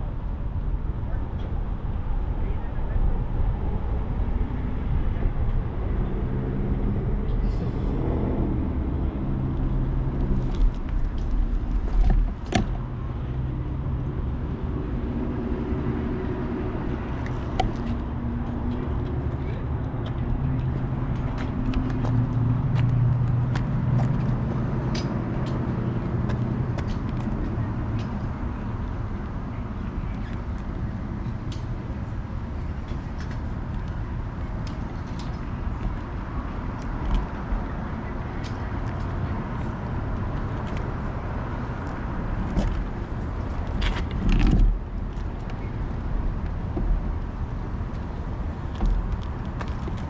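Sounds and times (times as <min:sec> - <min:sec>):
bicycle road noise: 0:00.0 - 0:50.0
passing car rumble: 0:00.0 - 0:50.0
steady rushing noise: 0:00.0 - 0:50.0
vehicle engine humming: 0:00.0 - 0:50.0.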